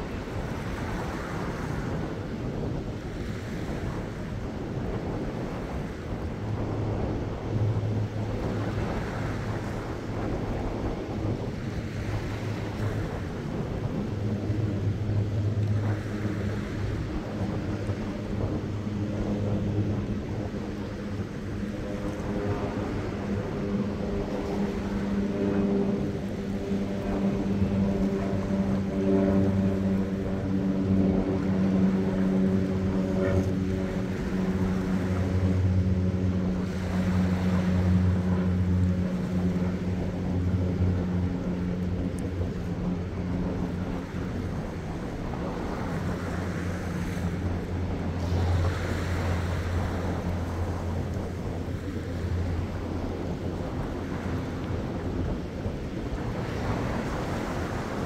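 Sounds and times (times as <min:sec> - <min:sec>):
low engine hum: 0:00.0 - 0:58.0.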